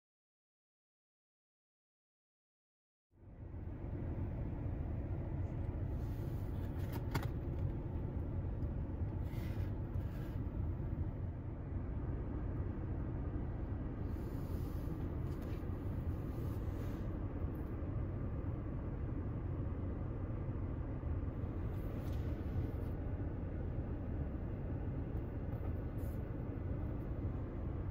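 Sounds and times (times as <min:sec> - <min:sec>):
low rumble of car cabin: 0:03.1 - 0:27.9.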